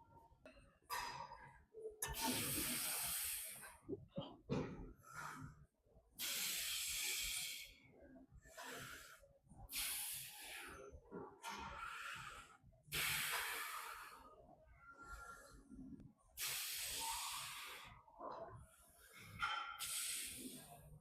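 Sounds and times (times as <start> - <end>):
quiet breathing: 0.5 - 21.0.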